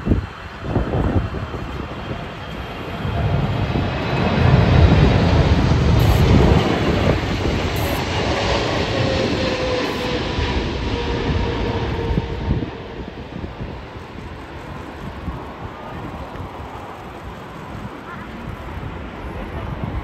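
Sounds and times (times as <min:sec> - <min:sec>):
jet airliner rumble and whine: 0:00.0 - 0:20.0.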